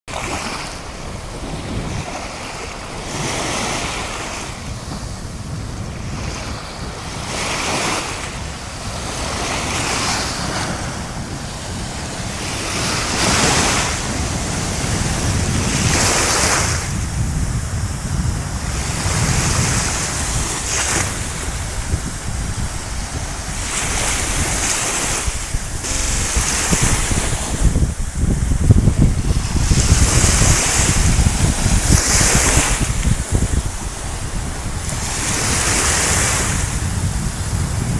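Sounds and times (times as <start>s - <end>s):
wind rumbling on microphone: 0.1s - 37.9s.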